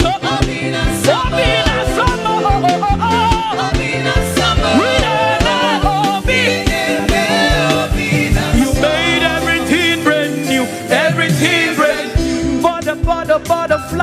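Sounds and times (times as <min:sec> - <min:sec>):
gospel band music: 0:00.0 - 0:14.0.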